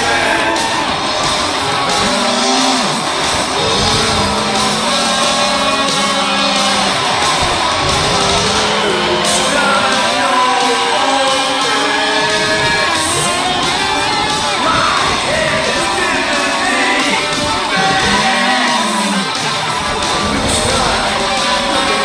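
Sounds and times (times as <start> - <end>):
rock music with singing: 0.0 - 22.0.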